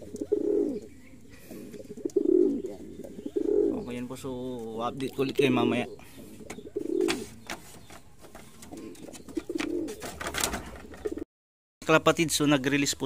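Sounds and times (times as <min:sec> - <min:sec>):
pigeons cooing: 0:00.0 - 0:11.2.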